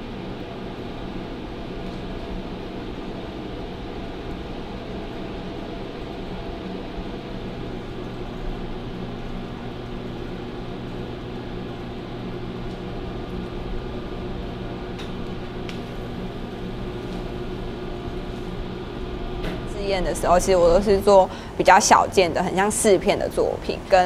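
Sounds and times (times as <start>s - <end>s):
steady low machine hum: 0.0s - 24.0s.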